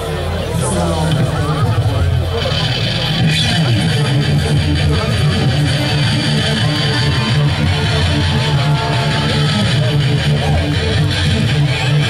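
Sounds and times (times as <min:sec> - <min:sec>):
bass guitar: 0:00.0 - 0:12.0
drums: 0:00.0 - 0:12.0
electric guitars: 0:00.0 - 0:12.0.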